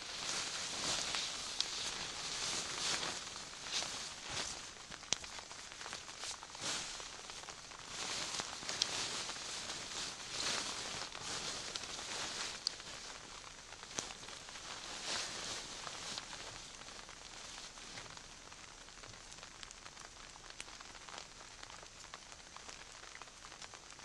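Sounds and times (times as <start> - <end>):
tarp and foam pad rustling: 0.0 - 21.8.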